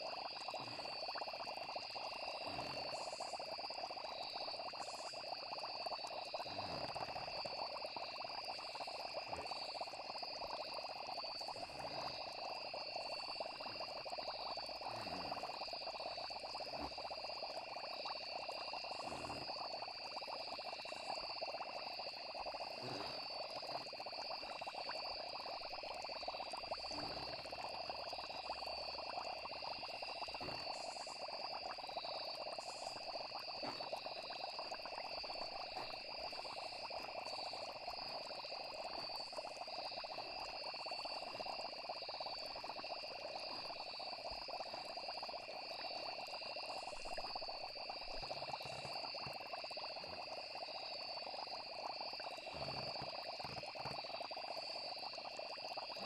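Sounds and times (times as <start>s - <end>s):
frogs calling: 0.0s - 56.0s
insects trilling: 0.0s - 56.0s.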